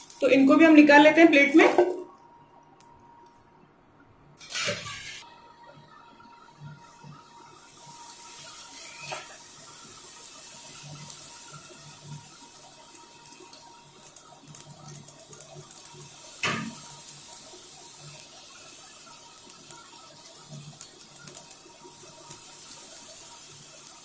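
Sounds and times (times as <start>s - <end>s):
food sizzling in hot oil: 0.0s - 1.9s, 4.4s - 5.3s, 7.2s - 24.0s.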